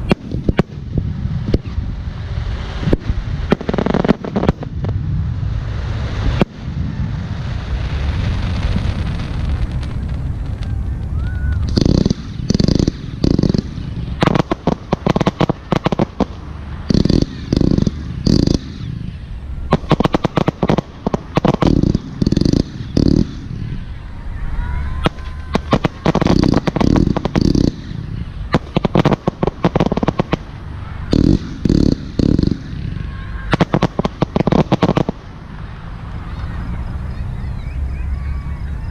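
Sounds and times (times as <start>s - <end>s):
firework booms: 0.0s - 35.8s
firework cracks and crackle: 0.0s - 37.2s.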